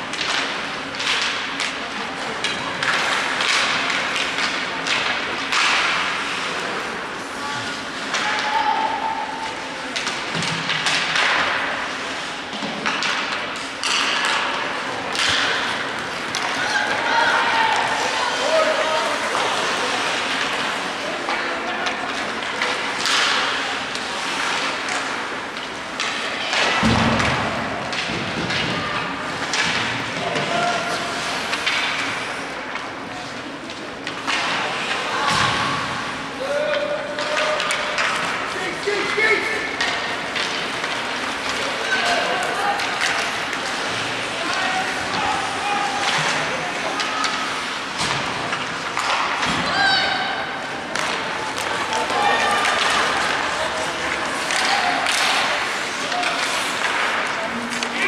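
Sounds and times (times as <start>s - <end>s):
crowd hubbub: 0.0s - 58.0s.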